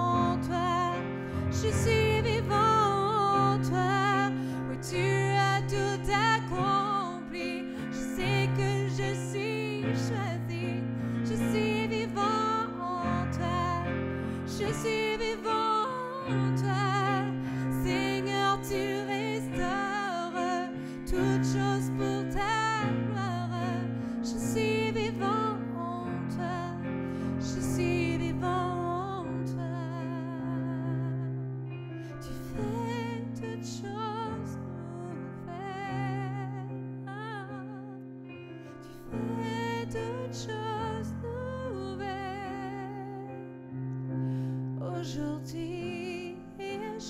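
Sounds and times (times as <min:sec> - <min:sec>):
woman singing with vibrato: 0:00.0 - 0:31.4, 0:32.2 - 0:38.0, 0:39.1 - 0:43.4, 0:44.8 - 0:47.0
piano chords: 0:00.0 - 0:47.0.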